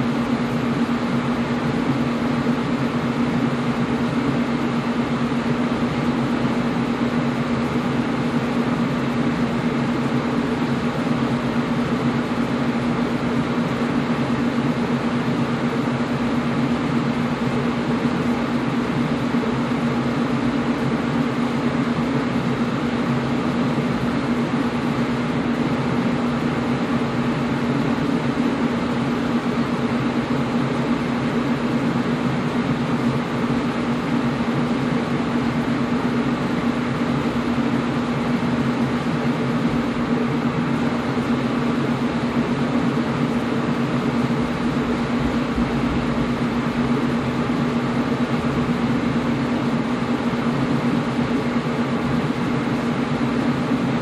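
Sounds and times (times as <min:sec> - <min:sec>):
air conditioner fan whoosh: 0:00.0 - 0:54.0
low steady hum: 0:00.0 - 0:54.0.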